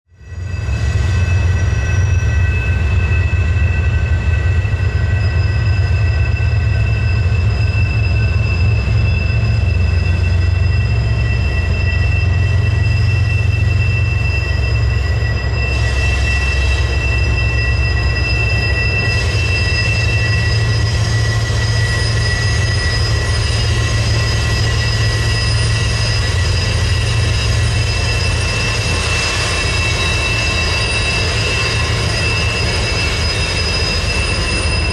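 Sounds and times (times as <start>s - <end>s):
train low rumble: 0.1s - 34.9s
high wheel squeal: 0.2s - 34.9s.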